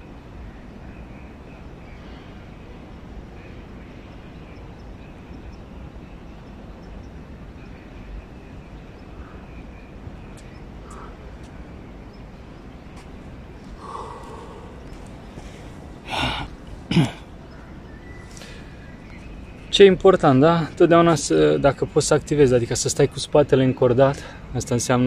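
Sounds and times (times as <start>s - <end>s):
steady low rumble: 0.0s - 22.8s.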